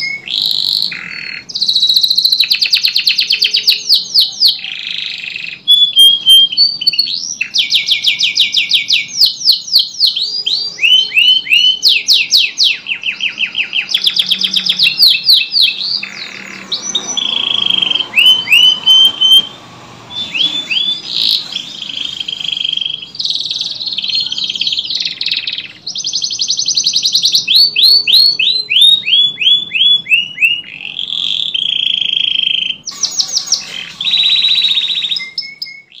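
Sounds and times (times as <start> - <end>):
canary singing trills: 0.0 - 36.0.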